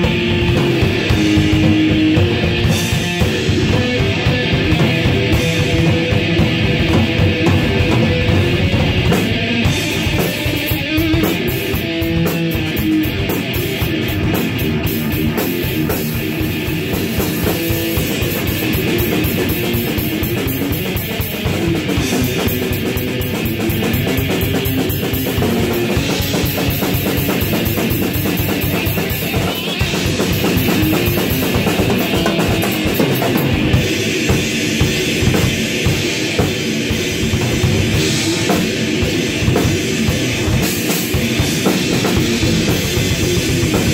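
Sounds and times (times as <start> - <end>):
electric guitar riff: 0.0 - 43.9
fast drumming with cymbals: 0.0 - 43.9.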